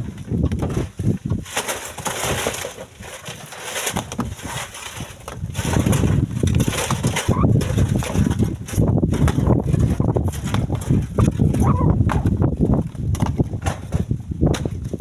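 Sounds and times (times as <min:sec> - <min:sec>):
stones knocking and clattering: 0:00.0 - 0:15.0.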